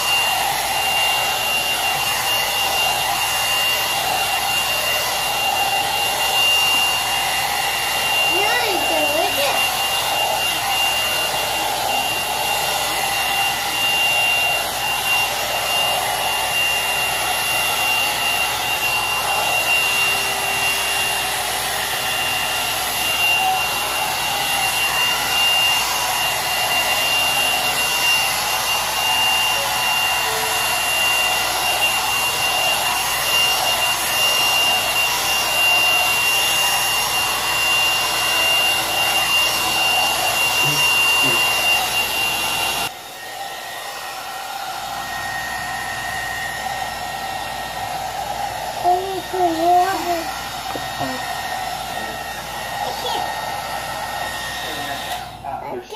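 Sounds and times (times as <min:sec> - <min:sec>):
hot air brush fan whining: 0:00.0 - 0:55.9.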